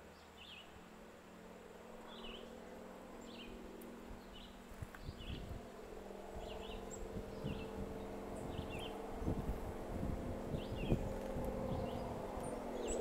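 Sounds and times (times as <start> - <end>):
songbird chirping: 0.0 - 0.9, 2.0 - 9.6, 10.2 - 13.0
low buzzing hum: 0.0 - 13.0.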